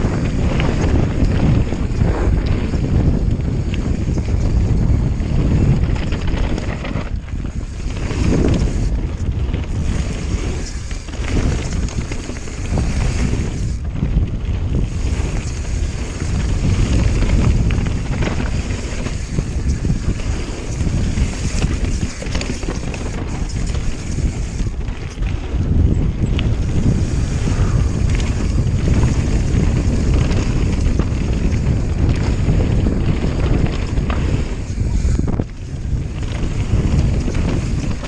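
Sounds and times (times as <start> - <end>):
tyres rolling on loose gravel: 0.0 - 38.0
wind buffeting microphone: 0.0 - 38.0.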